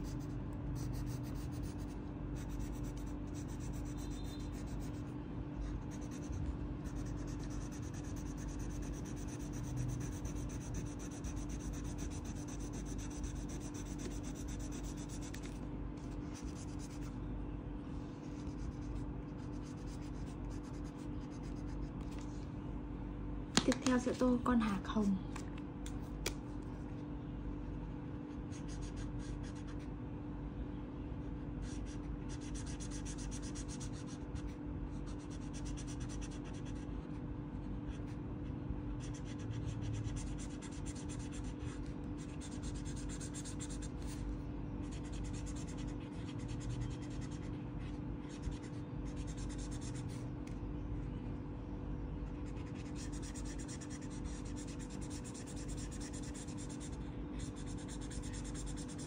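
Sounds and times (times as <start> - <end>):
marker scratching on paper: 0.0 - 17.2, 18.2 - 22.4, 28.5 - 29.9, 31.6 - 38.2, 39.0 - 50.3, 52.2 - 59.0.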